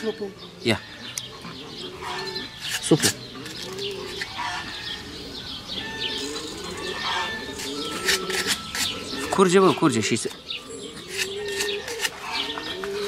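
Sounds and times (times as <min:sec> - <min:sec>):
pigeons cooing: 0:00.0 - 0:13.0
small birds chirping: 0:00.0 - 0:13.0.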